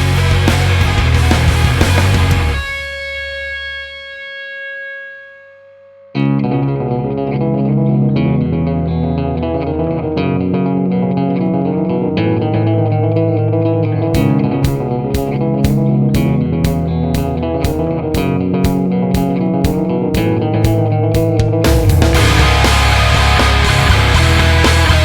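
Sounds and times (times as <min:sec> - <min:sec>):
rock music with distorted guitar: 0:00.0 - 0:05.3, 0:06.2 - 0:25.0.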